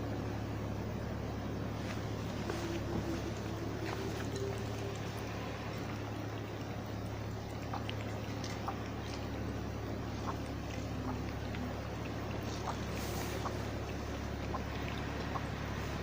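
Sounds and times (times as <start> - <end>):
low background hum: 0.0 - 16.0
cat lapping water: 2.0 - 16.0.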